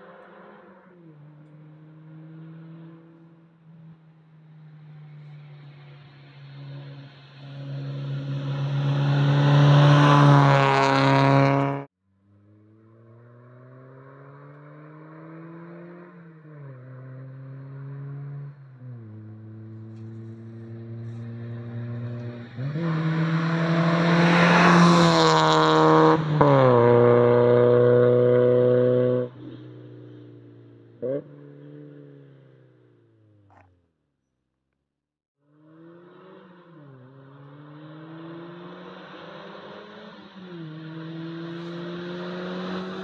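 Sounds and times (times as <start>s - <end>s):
car engine revving past: 0.0s - 33.7s, 35.5s - 43.0s.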